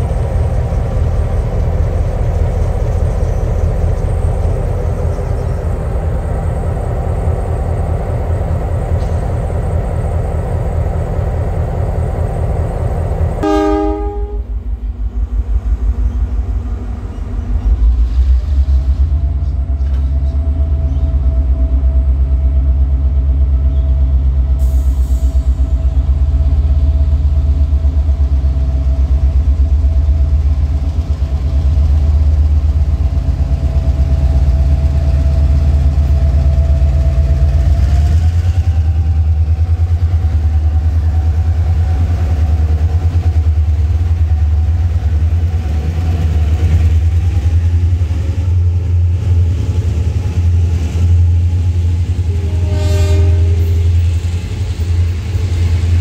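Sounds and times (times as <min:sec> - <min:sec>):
diesel locomotive rumble: 0:00.0 - 0:56.0.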